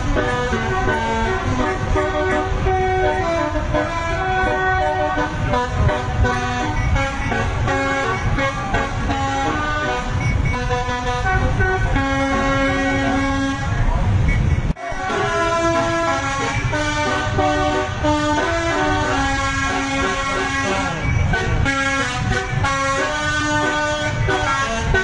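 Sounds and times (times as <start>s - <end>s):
air horns playing a melody: 0.0s - 13.9s, 14.8s - 25.0s.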